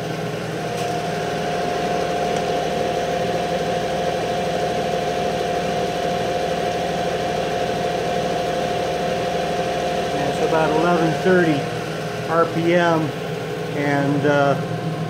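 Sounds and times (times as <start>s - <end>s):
electric motor humming and whining: 0.0s - 15.0s.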